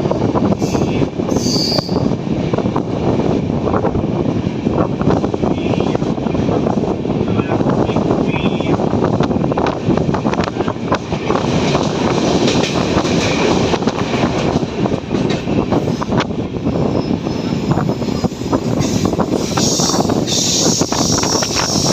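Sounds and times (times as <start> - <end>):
train rumbling and clattering on rails: 0.0 - 21.9.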